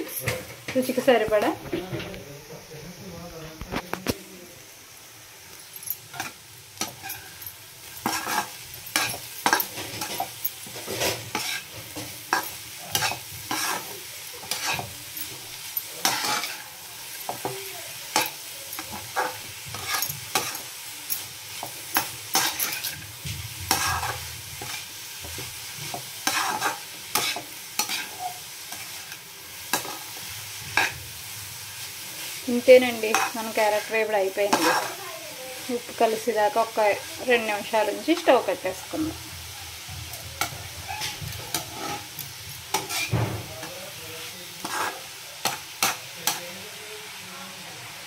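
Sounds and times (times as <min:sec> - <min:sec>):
faint frying sizzle: 0:00.0 - 0:48.0
spatula scraping pan: 0:06.1 - 0:31.1, 0:32.2 - 0:35.0, 0:35.6 - 0:46.4.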